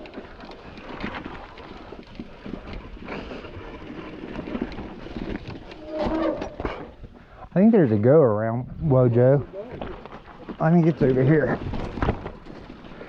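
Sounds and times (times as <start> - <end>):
mountain bike rattling on rock: 0.0 - 7.2, 8.9 - 13.0.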